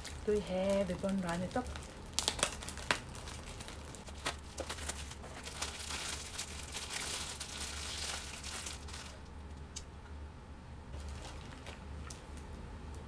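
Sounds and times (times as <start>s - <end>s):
plastic bag crinkling: 0.0s - 9.3s, 10.9s - 12.5s.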